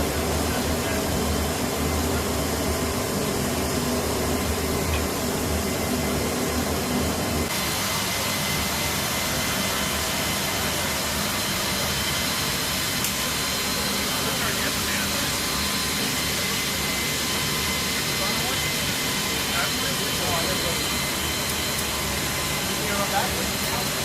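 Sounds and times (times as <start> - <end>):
aircraft engines roaring: 0.0 - 24.0.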